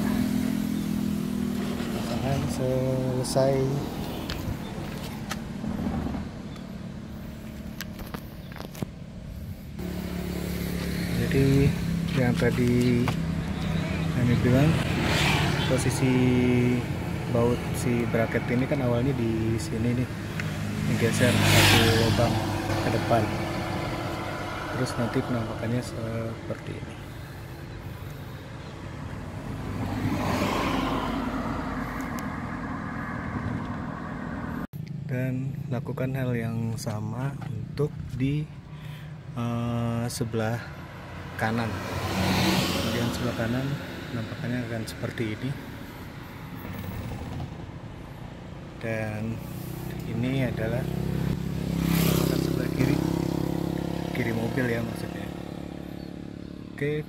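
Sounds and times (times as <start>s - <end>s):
motor vehicle passing by: 0.0s - 8.8s, 9.4s - 34.7s, 40.8s - 56.9s
road traffic rumble: 0.0s - 57.0s.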